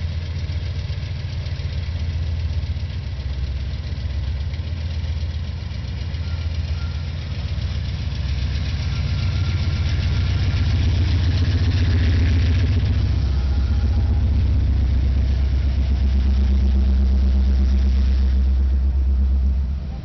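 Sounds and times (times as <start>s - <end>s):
locomotive diesel engines rumbling: 0.0s - 20.0s.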